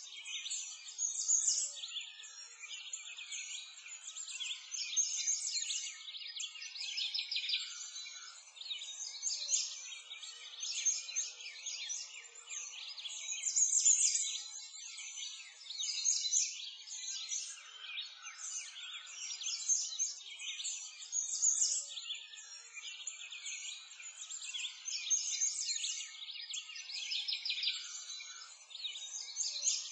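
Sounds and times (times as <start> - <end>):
small birds chirping and singing: 0.0 - 29.9.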